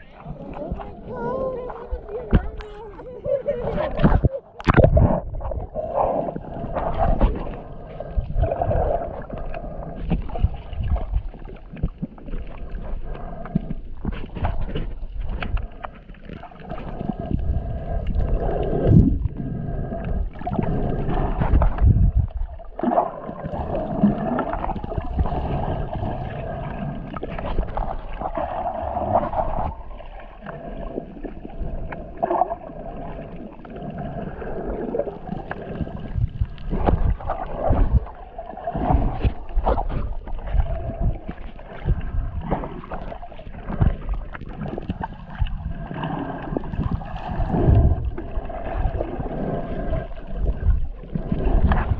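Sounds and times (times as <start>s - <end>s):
water sloshing and gurgling underwater: 0.0s - 51.9s.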